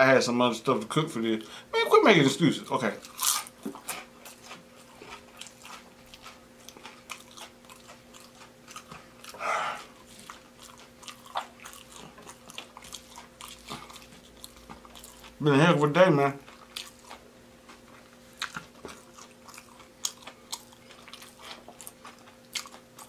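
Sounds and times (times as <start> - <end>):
faint steady hum: 0.0 - 23.0
chewing crunchy food: 2.6 - 23.0.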